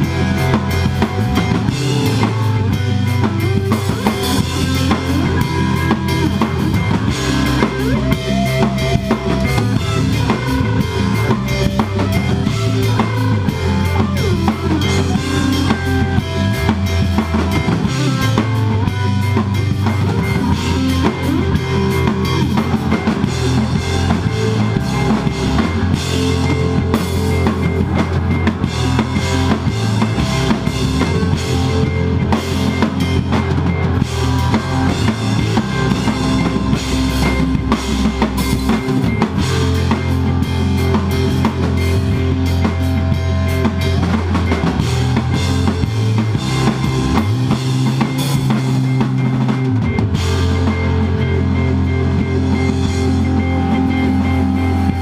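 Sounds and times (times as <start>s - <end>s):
band playing live: 0.0s - 55.0s
drum kit beating: 0.0s - 55.0s
electric guitars: 0.0s - 55.0s.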